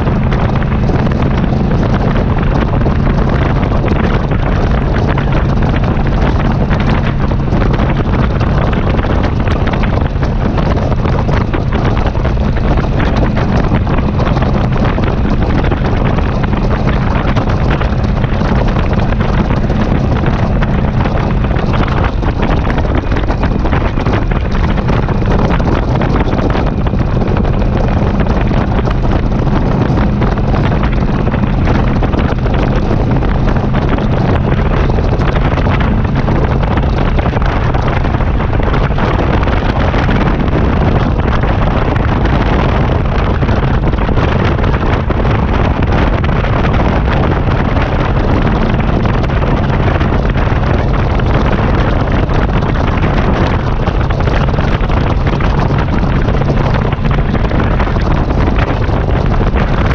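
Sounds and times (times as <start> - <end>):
motorcycle engine drone: 0.0 - 59.9
wind buffeting microphone: 0.0 - 59.9.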